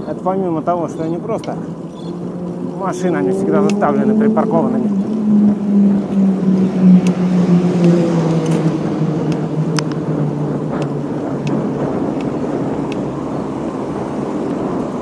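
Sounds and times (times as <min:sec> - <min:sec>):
bike tyres on wet asphalt: 0:00.0 - 0:15.0
low hum: 0:00.0 - 0:15.0.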